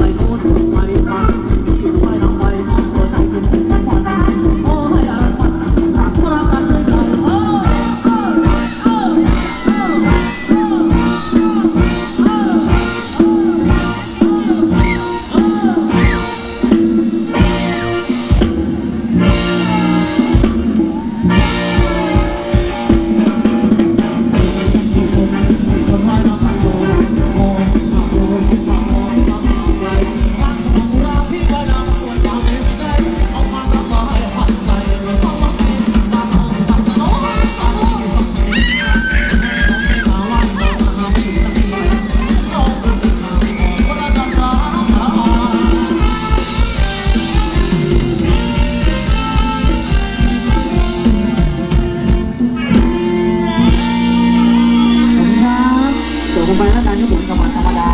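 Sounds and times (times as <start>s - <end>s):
person singing: 0.0s - 18.4s, 19.3s - 57.9s
live band dance music: 0.0s - 57.9s.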